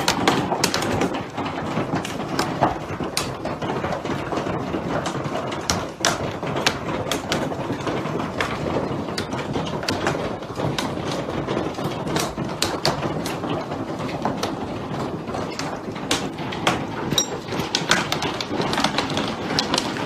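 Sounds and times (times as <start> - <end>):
hailstones rattling: 0.0 - 20.0
sharp cracks of hailstones: 0.0 - 20.0.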